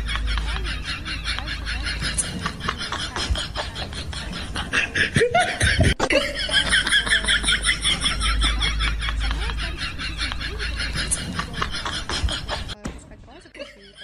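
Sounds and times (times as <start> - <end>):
high-pitched laughter: 0.0 - 12.8
loud low laugh: 0.0 - 12.8.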